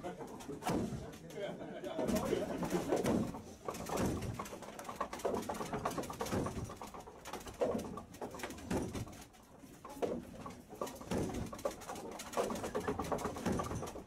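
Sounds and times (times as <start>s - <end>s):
wooden gearing knocking: 2.0s - 14.0s.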